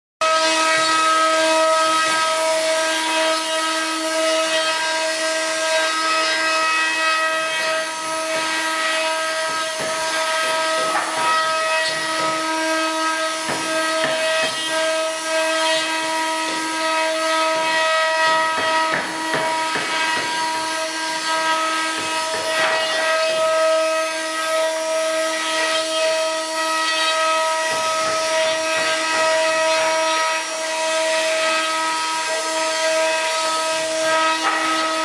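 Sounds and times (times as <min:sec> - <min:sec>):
router bits cutting wood: 0:00.2 - 0:35.0.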